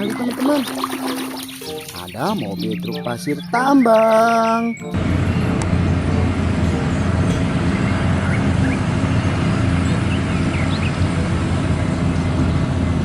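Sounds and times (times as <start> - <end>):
truck engine running: 1.6 - 13.0.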